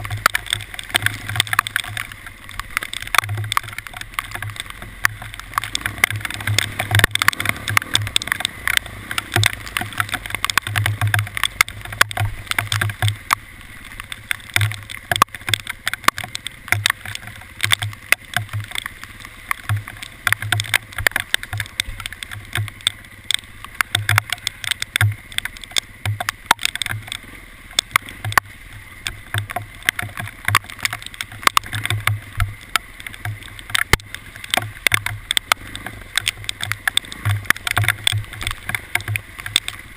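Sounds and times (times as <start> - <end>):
hailstones striking hard surfaces: 0.0 - 39.9.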